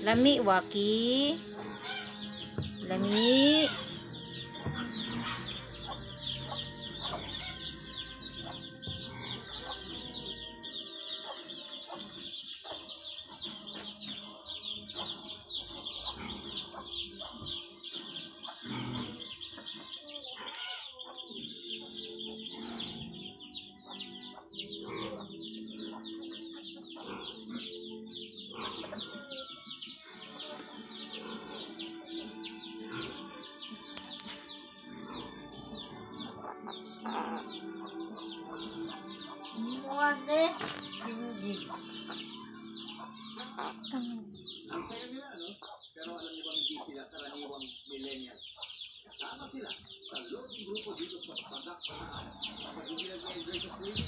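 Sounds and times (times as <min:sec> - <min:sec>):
birds chirping and clucking: 0:00.0 - 0:54.0
faint music: 0:00.0 - 0:54.0.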